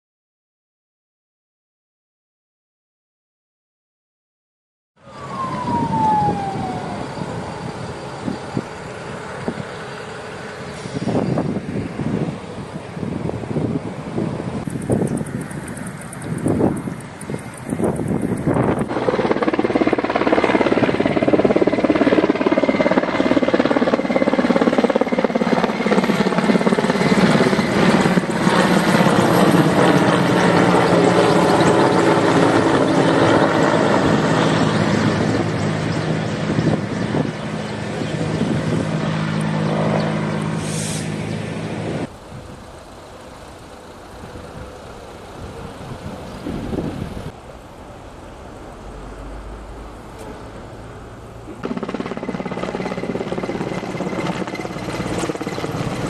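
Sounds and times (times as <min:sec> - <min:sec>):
helicopter flying overhead: 0:05.0 - 0:56.0
outdoor background: 0:05.0 - 0:56.0.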